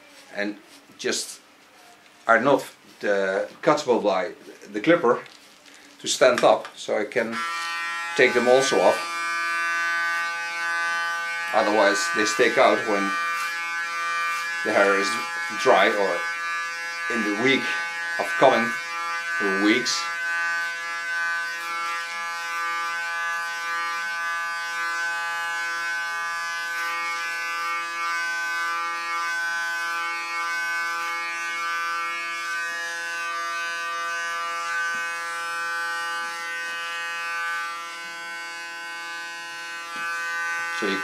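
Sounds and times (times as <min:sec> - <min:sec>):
electric hair clipper humming: 0:07.1 - 0:41.0.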